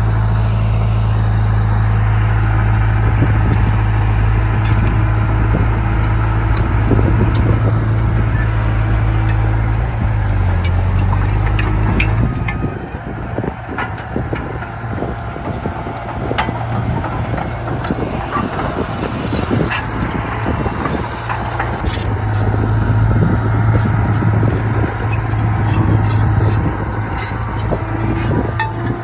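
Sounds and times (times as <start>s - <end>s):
heavy diesel machinery running: 0.0s - 29.0s
metallic clanks and rattles: 2.4s - 29.0s.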